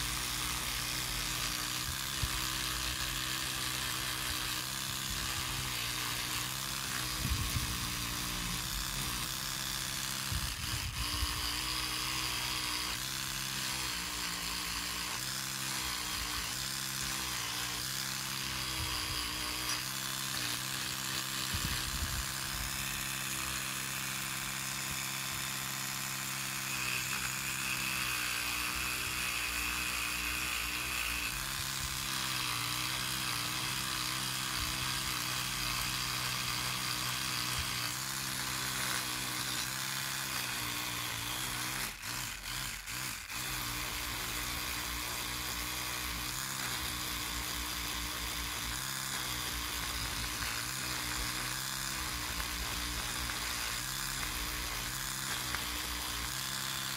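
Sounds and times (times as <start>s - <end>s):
electric toothbrush buzzing: 0.0s - 56.9s.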